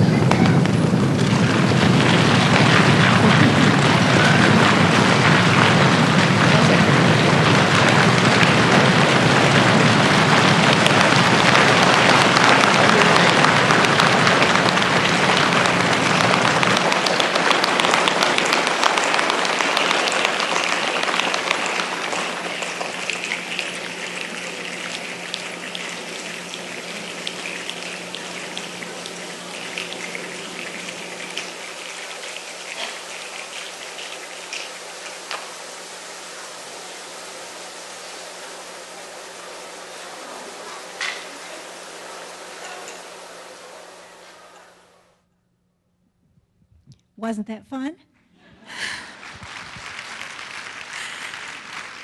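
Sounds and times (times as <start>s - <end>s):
crowd imitating rain with hands: 0.0s - 44.8s, 48.4s - 52.0s.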